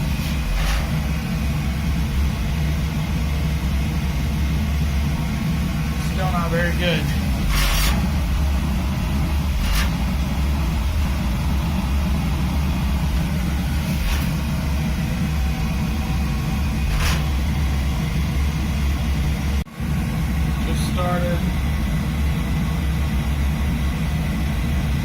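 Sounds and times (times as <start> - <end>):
boiler burner rumbling: 0.0 - 25.0.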